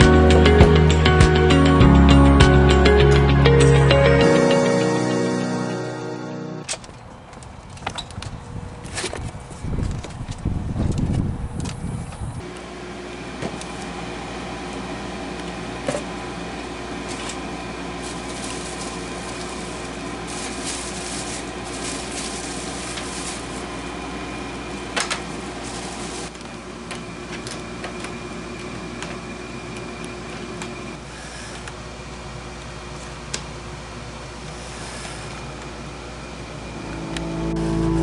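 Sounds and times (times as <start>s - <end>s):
steady mechanical hum: 6.7s - 37.7s.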